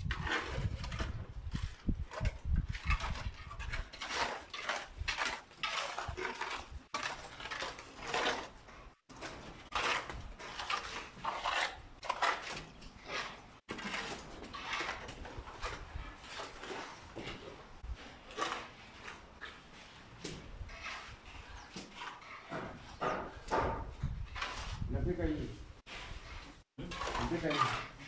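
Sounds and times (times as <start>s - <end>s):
trowels scraping plaster: 0.0s - 28.0s.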